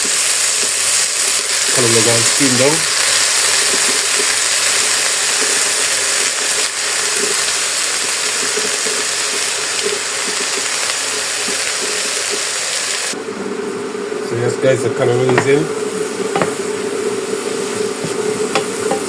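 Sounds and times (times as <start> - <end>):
greens sizzling in a hot pot: 0.0 - 19.0.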